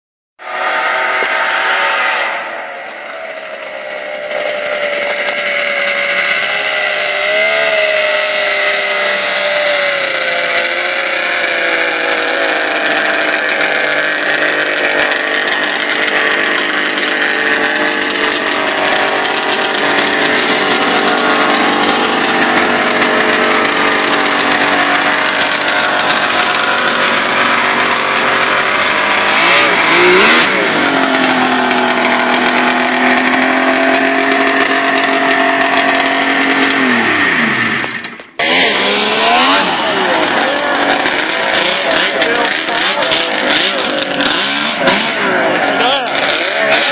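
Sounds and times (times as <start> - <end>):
snowmobile engine running: 0.4 - 46.9.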